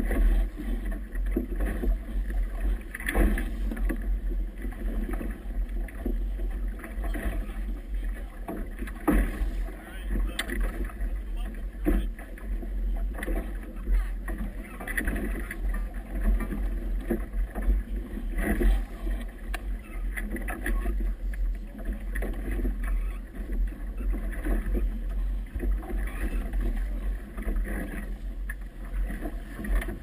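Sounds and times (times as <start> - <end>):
water splashing against boat hull: 0.0 - 30.0.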